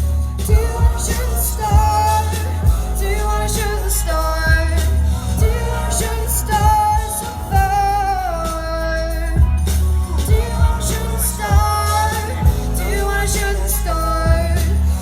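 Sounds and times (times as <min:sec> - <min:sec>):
pop backing track: 0:00.0 - 0:15.0.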